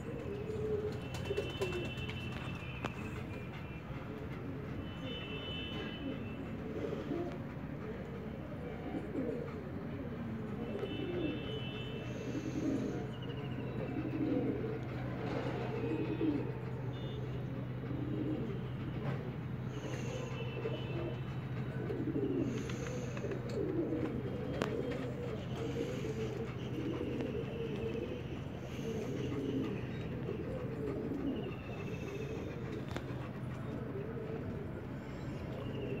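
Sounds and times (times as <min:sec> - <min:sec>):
pigeons cooing: 0:00.0 - 0:36.0.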